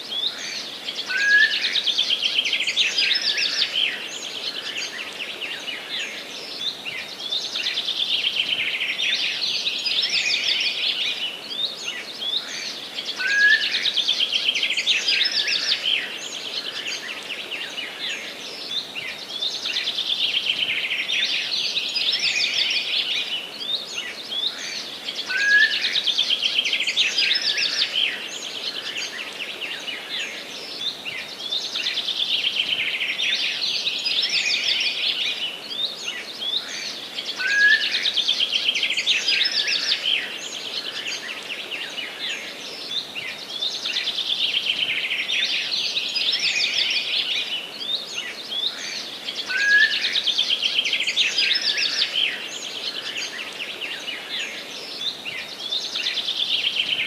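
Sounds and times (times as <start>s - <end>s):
birds singing trills and chirps: 0.0s - 57.0s
faint hiss: 0.0s - 57.0s.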